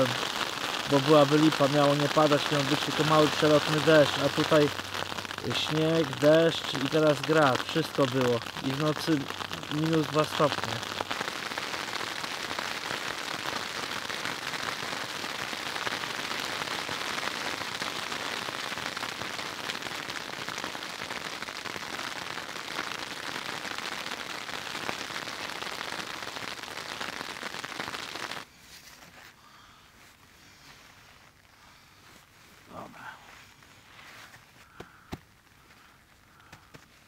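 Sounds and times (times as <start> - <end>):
hail and rain on a tarp: 0.0 - 37.0.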